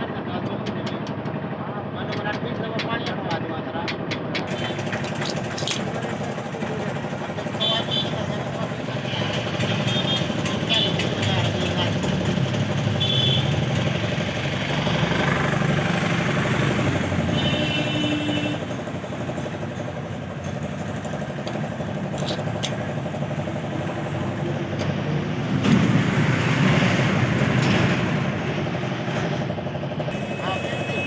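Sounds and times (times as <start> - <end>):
diesel tractor engine idling: 0.0 - 31.0.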